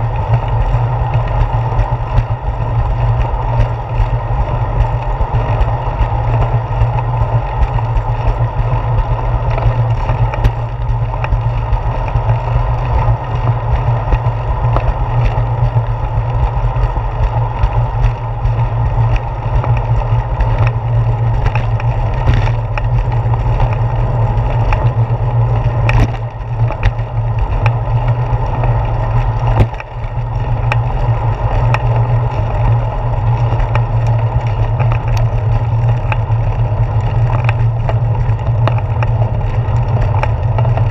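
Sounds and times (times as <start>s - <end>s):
bike clicks and knocks: 0.0s - 40.9s
wind and road rumble: 0.0s - 40.9s.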